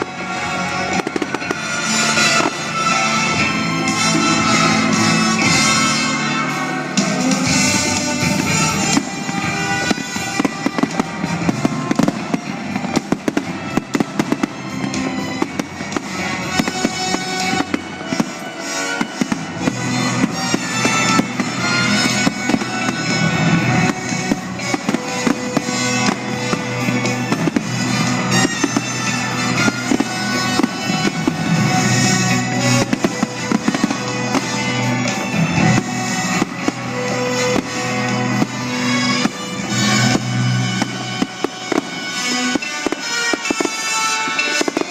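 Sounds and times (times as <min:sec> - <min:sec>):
fireworks banging and crackling: 0:00.0 - 0:44.9
loud music: 0:00.0 - 0:44.9.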